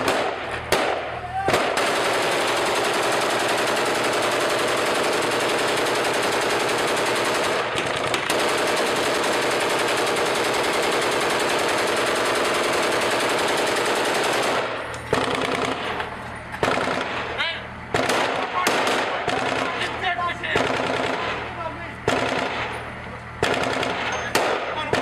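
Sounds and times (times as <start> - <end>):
automatic machine-gun fire: 0.0 - 16.0, 16.6 - 17.3, 17.9 - 22.8, 23.4 - 25.0.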